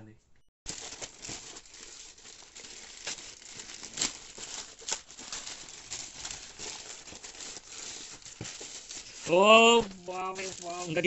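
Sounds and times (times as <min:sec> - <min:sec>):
plastic mailer bag crinkling: 0:00.7 - 0:11.0.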